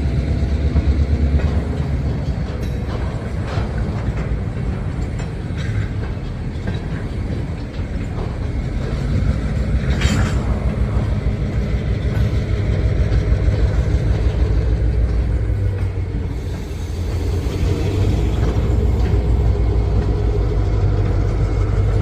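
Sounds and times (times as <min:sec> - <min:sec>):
diesel locomotive and railcars rumbling: 0:00.0 - 0:22.0.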